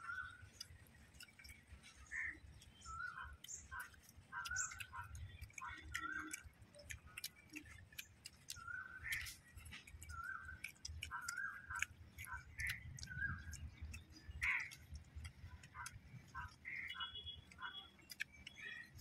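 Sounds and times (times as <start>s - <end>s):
birds calling: 0.0s - 19.0s
faint clicks: 0.1s - 19.0s.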